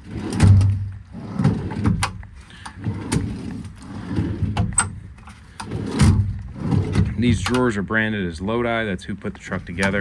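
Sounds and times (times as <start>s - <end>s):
metal drawers sliding open and shut: 0.0s - 7.8s, 9.5s - 10.0s.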